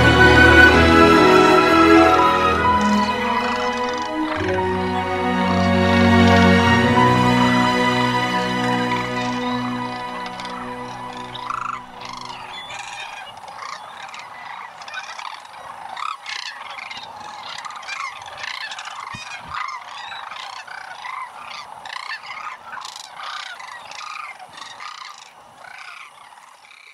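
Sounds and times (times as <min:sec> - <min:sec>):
cranes calling: 0:00.0 - 0:26.9.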